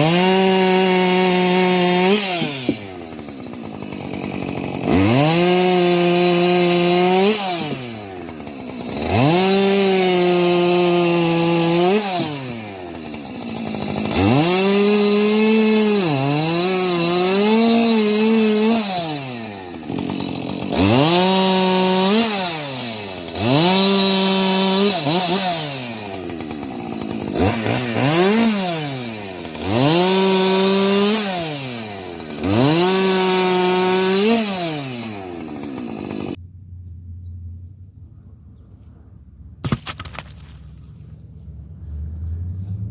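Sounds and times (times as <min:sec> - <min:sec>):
chainsaw revving and idling: 0:00.0 - 0:36.4.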